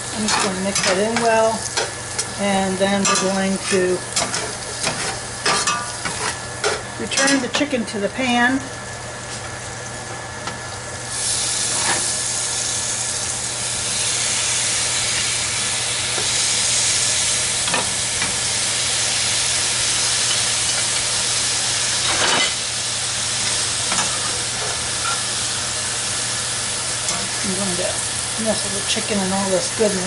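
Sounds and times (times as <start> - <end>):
chicken sizzling in a pan: 0.0 - 30.0.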